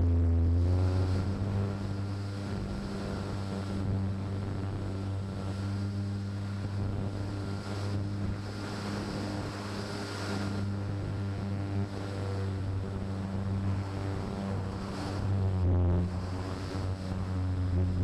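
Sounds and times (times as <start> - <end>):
model plane motor and propeller hum: 0.0 - 18.0
wind rushing over microphone: 0.0 - 18.0.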